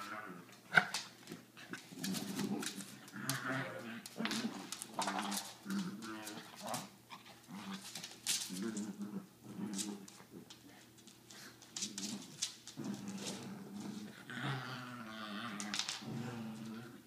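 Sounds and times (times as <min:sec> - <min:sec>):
dogs growling: 0:01.6 - 0:10.8, 0:11.4 - 0:17.0.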